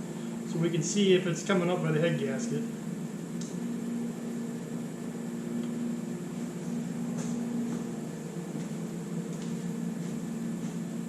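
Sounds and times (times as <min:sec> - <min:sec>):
faint high whine: 0:00.0 - 0:11.0
mechanical hum: 0:00.0 - 0:11.0.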